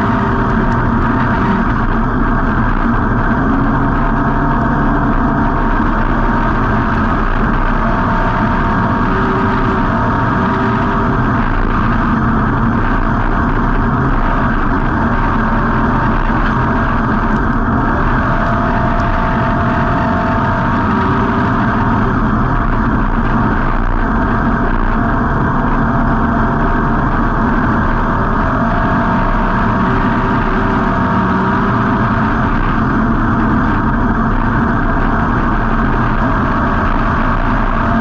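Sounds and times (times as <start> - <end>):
muffled race car engine running: 0.0 - 38.0.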